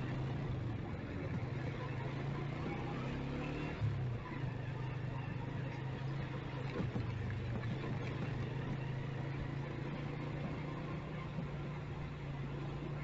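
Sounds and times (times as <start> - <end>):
light street traffic: 0.0 - 13.0
motorcycle engine running: 0.0 - 13.0.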